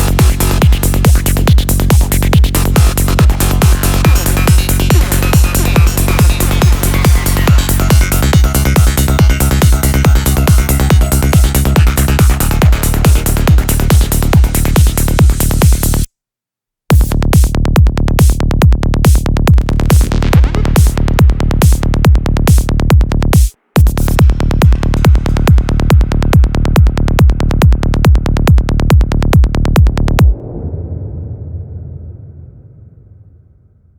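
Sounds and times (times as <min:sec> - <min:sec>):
psytrance music with kick drum: 0:00.0 - 0:16.1, 0:16.9 - 0:30.9.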